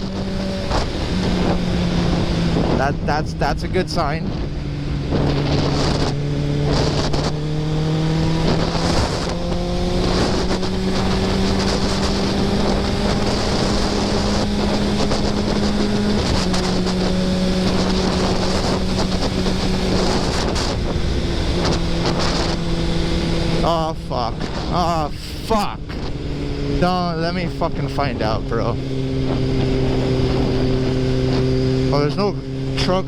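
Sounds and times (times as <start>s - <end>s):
motorcycle engine running: 0.0s - 33.0s
wind on microphone: 0.0s - 33.0s.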